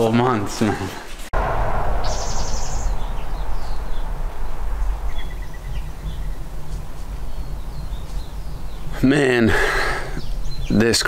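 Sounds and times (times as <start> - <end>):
birds chirping: 1.4 - 11.0.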